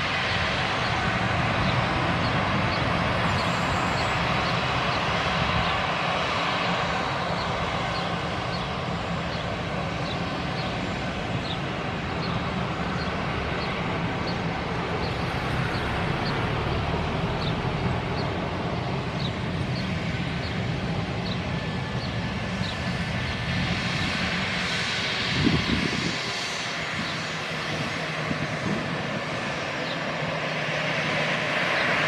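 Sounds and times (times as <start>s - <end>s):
jet engines humming: 0.0s - 32.0s.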